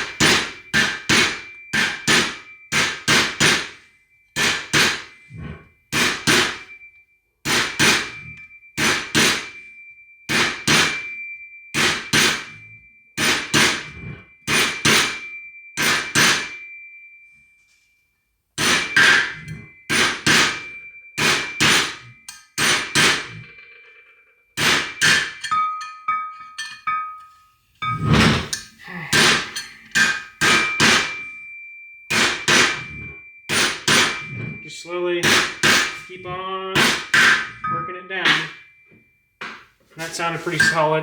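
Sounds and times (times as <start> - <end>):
hammer striking metal: 0.0 - 16.7, 18.6 - 23.9, 24.6 - 31.5, 32.1 - 41.0.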